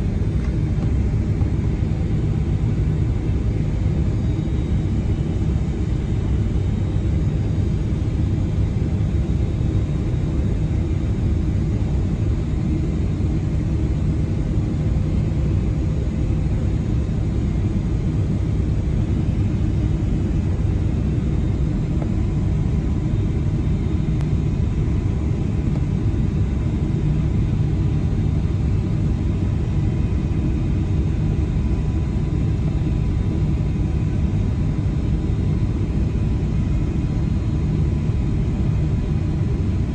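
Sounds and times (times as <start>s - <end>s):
aircraft engine and airflow rumble: 0.0s - 39.9s
faint steady whine: 0.0s - 39.9s.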